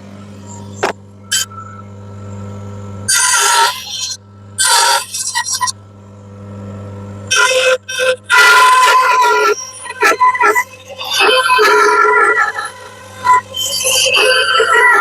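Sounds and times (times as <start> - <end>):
bandsaw motor hum: 0.0 - 15.0.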